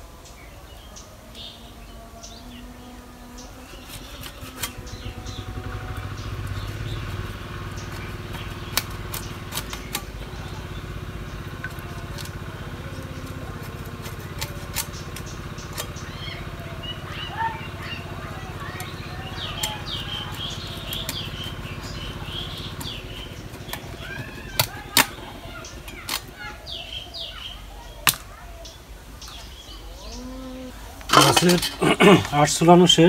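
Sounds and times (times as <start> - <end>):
small engine running: 1.5 - 28.2.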